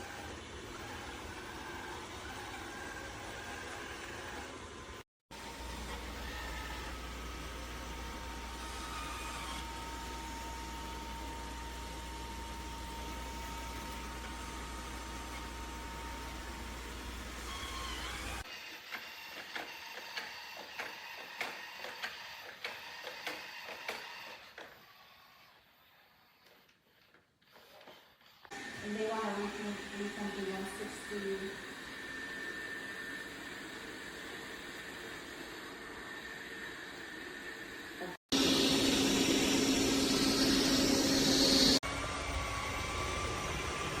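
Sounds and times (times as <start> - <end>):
robot vacuum whirring: 0.0 - 44.0.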